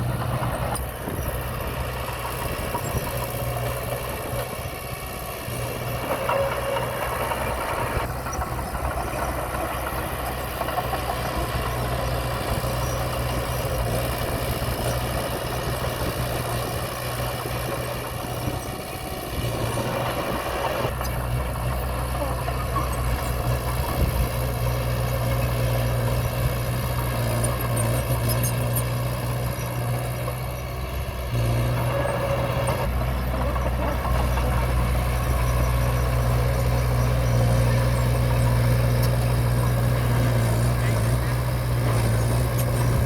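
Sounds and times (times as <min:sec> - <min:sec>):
earthmoving machinery engine drone: 0:00.0 - 0:43.0.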